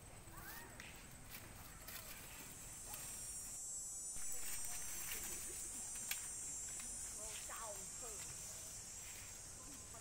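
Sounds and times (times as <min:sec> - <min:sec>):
insects shrilling: 0:01.6 - 0:10.0.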